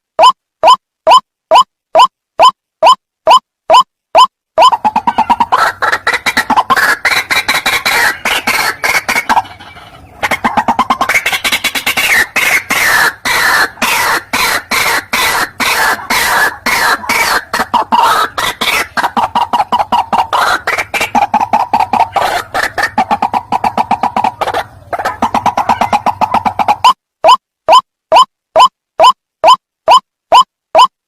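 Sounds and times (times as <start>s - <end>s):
harsh repeated bird calls: 0.2s - 30.9s.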